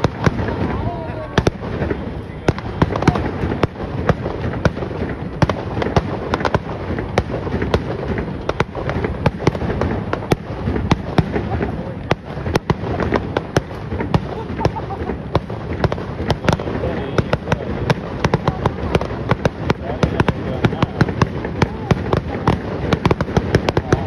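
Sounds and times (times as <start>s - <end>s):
constant rumble: 0.0s - 24.0s
fireworks bangs and crackles: 0.0s - 24.0s.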